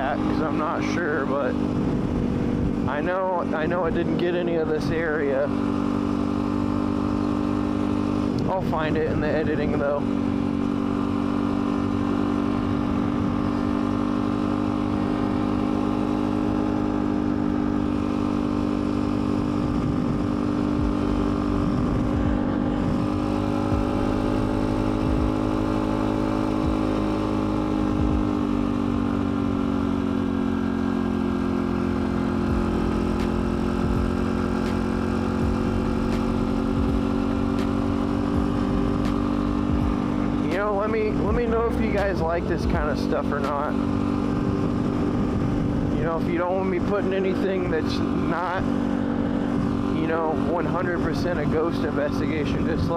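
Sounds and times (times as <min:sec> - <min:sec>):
pit bike engine running: 0:00.0 - 0:52.9.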